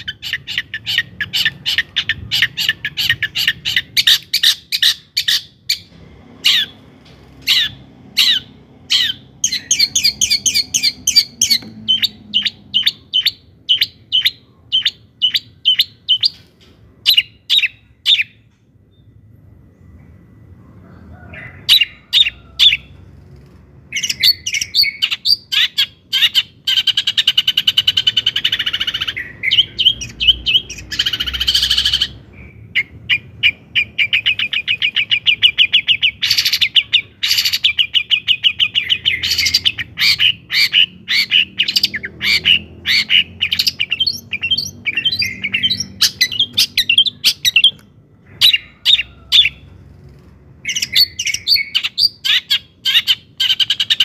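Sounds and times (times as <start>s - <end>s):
bird chattering song: 0.0s - 19.2s, 23.9s - 49.6s, 50.6s - 54.0s.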